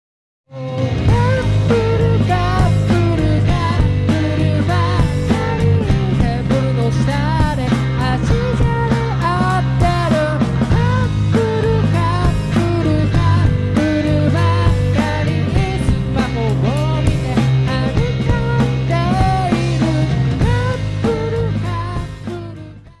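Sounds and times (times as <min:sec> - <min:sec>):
drum kit: 0:00.5 - 0:23.0
electric bass: 0:00.5 - 0:23.0
electric guitar: 0:00.5 - 0:23.0
man singing: 0:00.5 - 0:23.0.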